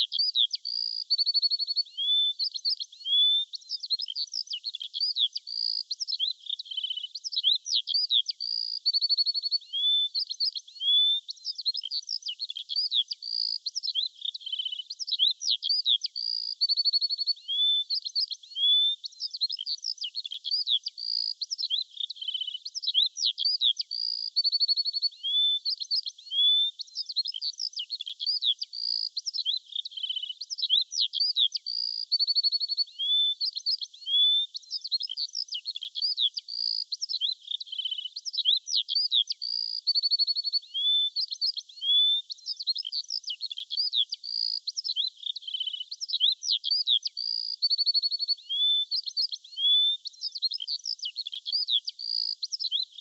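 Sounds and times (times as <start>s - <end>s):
songbirds chirping and singing: 0.0s - 53.0s.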